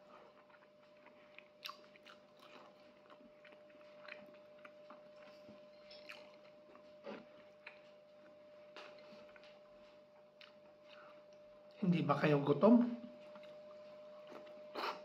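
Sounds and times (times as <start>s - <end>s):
faint steady hum: 0.0s - 15.0s
person chewing and smacking: 0.1s - 11.5s, 13.3s - 15.0s.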